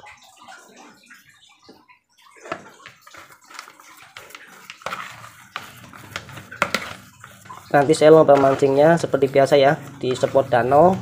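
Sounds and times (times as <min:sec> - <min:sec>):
spatula stirring dough in plastic bowl: 0:00.7 - 0:11.0.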